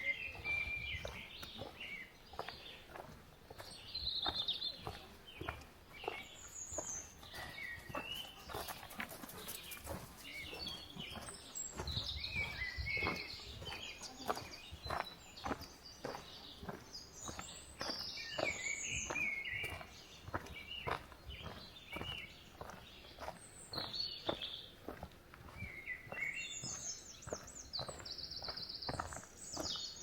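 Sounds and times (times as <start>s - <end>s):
footsteps on forest path: 0.0s - 30.0s
songbirds singing: 0.0s - 30.0s.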